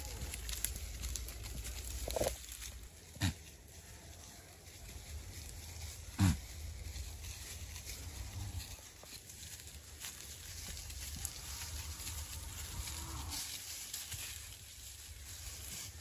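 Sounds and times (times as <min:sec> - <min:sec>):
rustling in leaf litter: 0:00.0 - 0:16.0.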